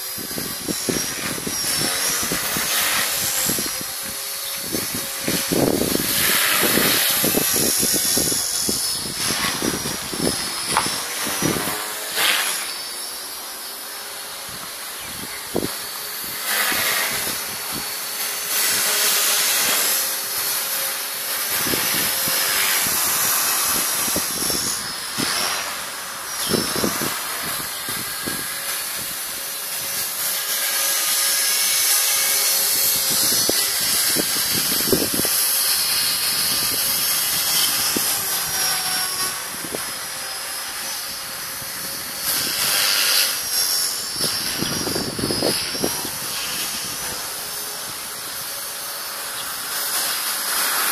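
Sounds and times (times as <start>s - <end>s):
rc helicopter rotor whine: 0.0s - 50.9s
rushing blade hiss: 0.0s - 50.9s.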